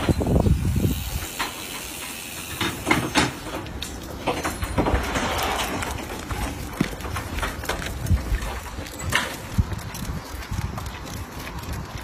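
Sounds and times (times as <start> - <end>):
footsteps on asphalt: 0.0 - 12.0.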